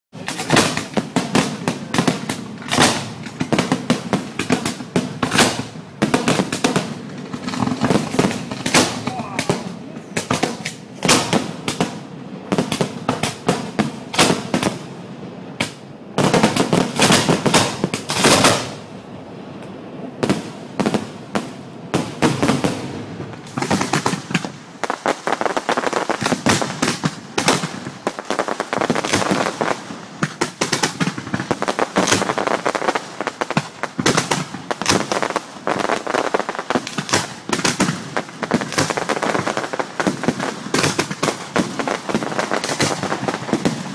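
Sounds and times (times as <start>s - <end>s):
fireworks banging and crackling: 0.1s - 43.9s.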